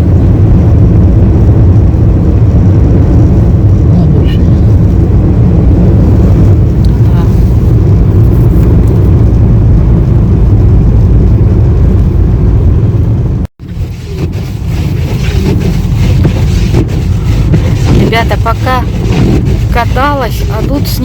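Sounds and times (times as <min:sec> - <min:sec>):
car cabin road noise: 0:00.0 - 0:21.0.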